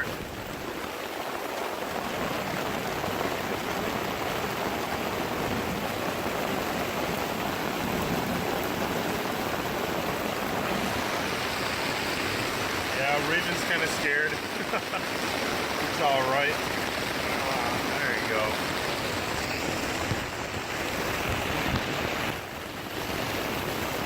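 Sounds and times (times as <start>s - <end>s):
heavy rain on a tent: 0.0s - 24.0s.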